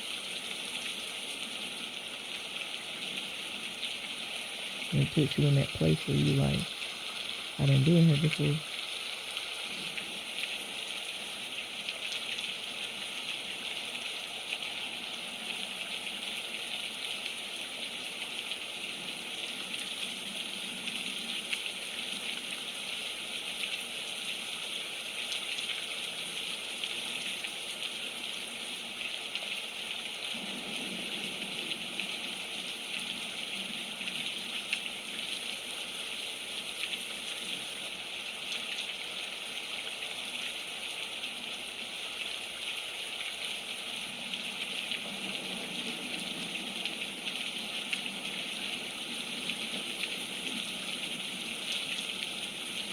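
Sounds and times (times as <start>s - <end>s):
heavy rain splattering: 0.0s - 52.9s.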